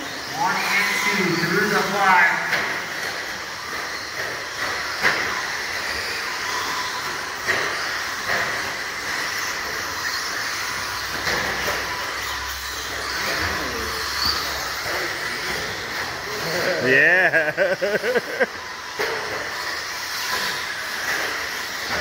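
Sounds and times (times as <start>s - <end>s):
rc truck motors whining: 0.0s - 22.0s.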